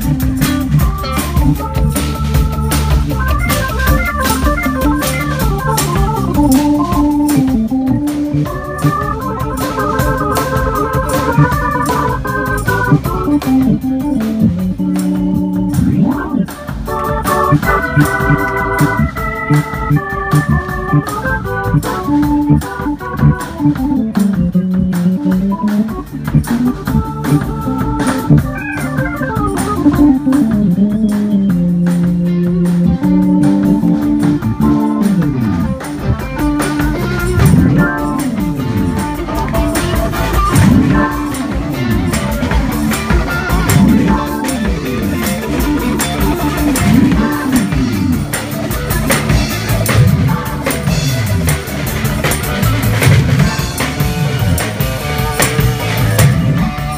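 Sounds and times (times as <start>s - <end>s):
drum beat: 0.0s - 56.9s
electronic organ keyboard: 0.0s - 56.9s.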